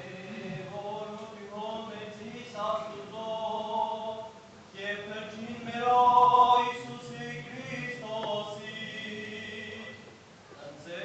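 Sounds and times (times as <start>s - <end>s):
voices singing liturgical chant: 0.0s - 10.0s.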